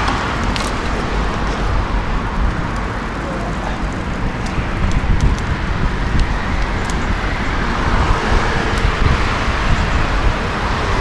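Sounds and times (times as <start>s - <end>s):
cars passing by: 0.0s - 11.0s.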